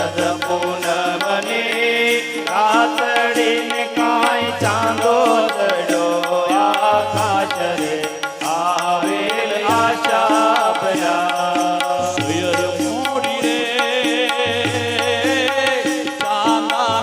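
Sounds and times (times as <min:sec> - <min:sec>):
person singing devotional song: 0:00.0 - 0:17.0
drum beat: 0:02.5 - 0:17.0.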